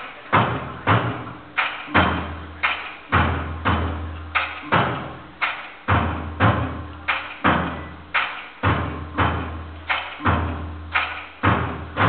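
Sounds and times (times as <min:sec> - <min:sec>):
large drums beaten hard: 0:00.0 - 0:12.0.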